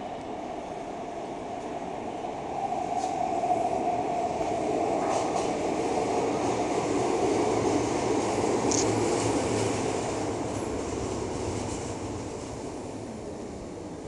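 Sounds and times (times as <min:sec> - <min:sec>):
metro train pulling into station: 0:00.0 - 0:14.0.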